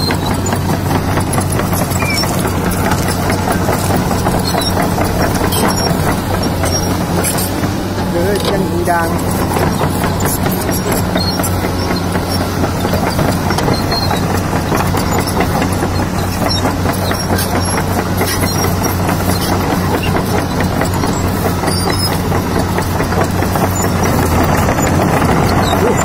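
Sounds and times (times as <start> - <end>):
diesel engine humming: 0.0 - 26.0
steel tracks clattering: 0.0 - 26.0.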